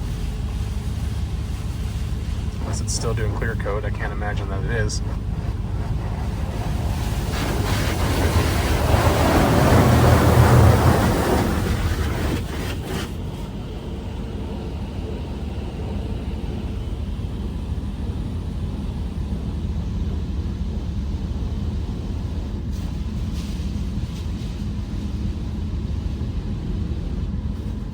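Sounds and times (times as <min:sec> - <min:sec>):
car wash spray hissing: 0:00.0 - 0:27.9
low machinery hum: 0:00.0 - 0:27.9.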